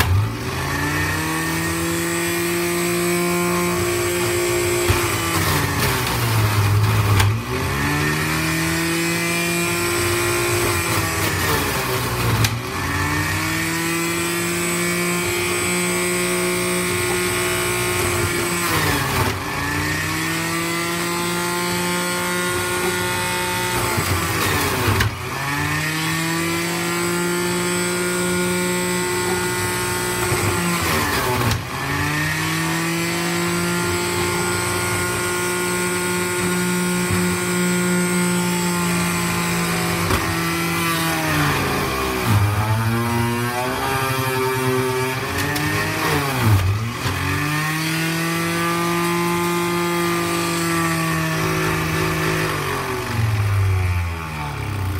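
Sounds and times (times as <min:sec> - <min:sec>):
juicer motor whining: 0:00.0 - 0:54.9.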